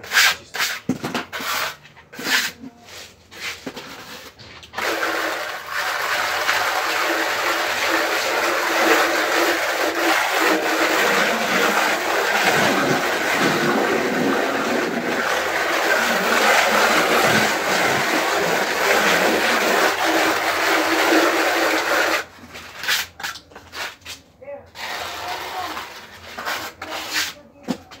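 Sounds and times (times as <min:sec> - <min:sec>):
gritty scraping on wall: 0:00.0 - 0:28.0.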